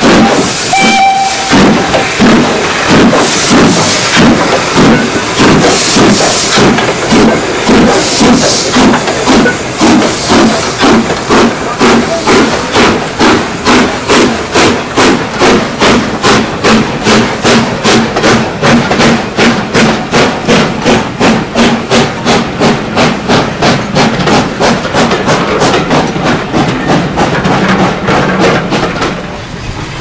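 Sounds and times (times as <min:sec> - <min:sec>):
steam locomotive exhaust beats: 0:00.0 - 0:30.0.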